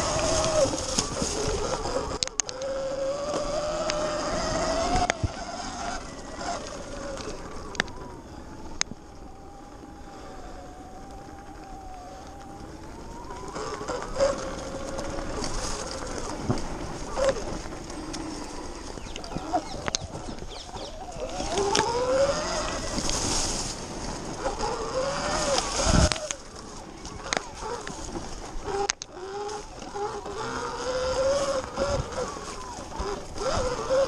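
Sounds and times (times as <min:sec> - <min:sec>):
electric motor whine: 0:00.0 - 0:34.0
tyre noise: 0:00.0 - 0:34.0
wind noise: 0:00.0 - 0:34.0.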